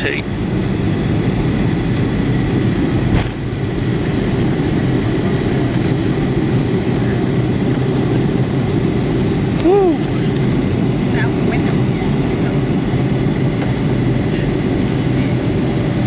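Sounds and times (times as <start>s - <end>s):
jet engines low rumble: 0.0s - 16.0s.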